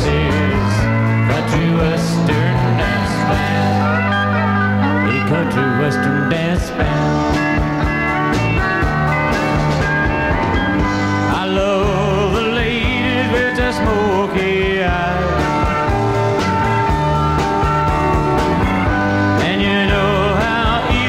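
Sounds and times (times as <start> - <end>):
country rock band music: 0.0 - 21.0.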